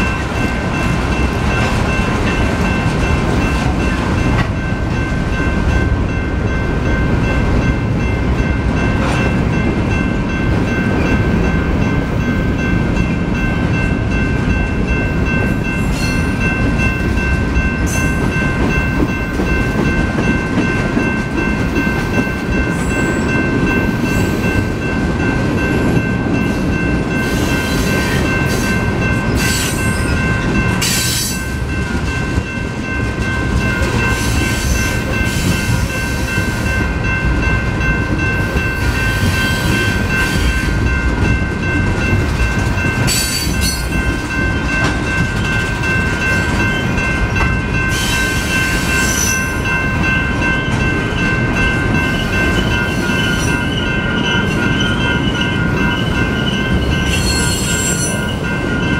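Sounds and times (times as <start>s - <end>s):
freight train wheels rumbling: 0.0s - 58.9s
steady high ringing tone: 0.0s - 58.9s.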